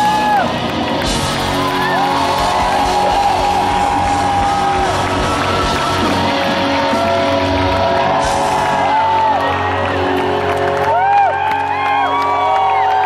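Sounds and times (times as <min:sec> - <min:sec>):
rock band sustained chords: 0:00.0 - 0:12.2
crowd cheering and whooping: 0:00.0 - 0:13.0.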